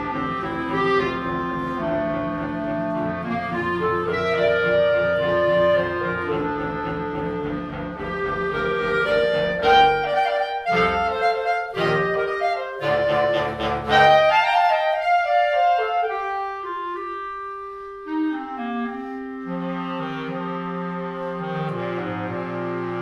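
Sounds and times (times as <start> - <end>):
clarinet choir playing: 0.0 - 23.0.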